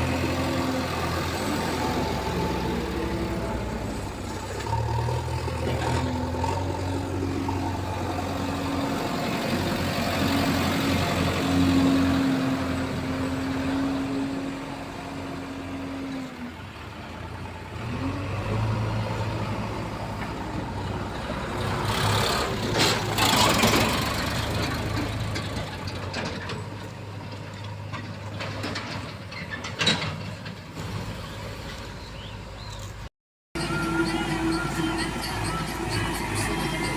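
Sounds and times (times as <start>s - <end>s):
diesel engine running: 0.0s - 32.9s, 33.6s - 36.9s.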